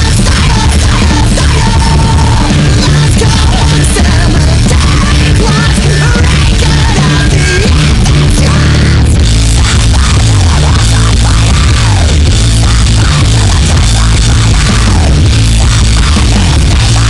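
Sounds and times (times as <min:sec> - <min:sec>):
heavy rock music with electric guitars: 0:00.0 - 0:17.0.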